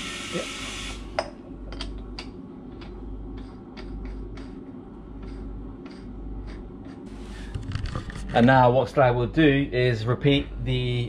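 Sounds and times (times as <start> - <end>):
low hum of machinery: 0.0 - 11.0.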